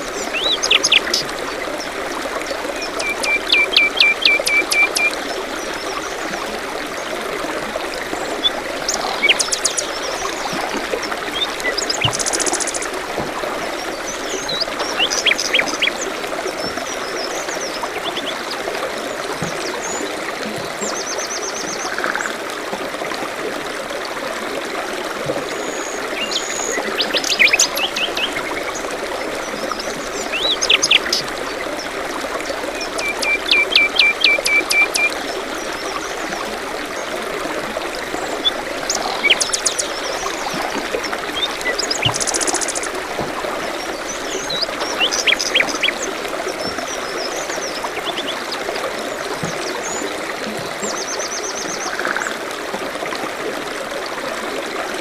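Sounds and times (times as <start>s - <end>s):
songbirds chirping: 0.0s - 22.0s, 25.5s - 52.1s
stream trickling: 0.0s - 55.0s.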